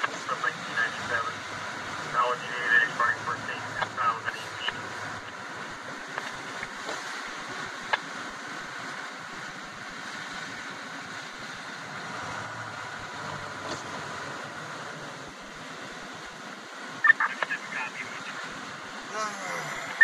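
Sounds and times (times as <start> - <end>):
car engine running: 0.0 - 20.0
tyres on slushy road: 0.0 - 20.0.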